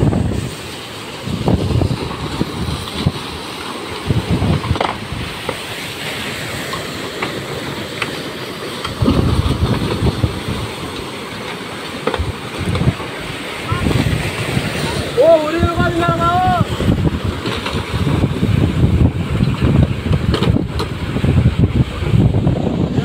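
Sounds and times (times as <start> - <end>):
surf breaking against hull and concrete: 0.0 - 23.0
wind rumbling on microphone: 0.0 - 23.0.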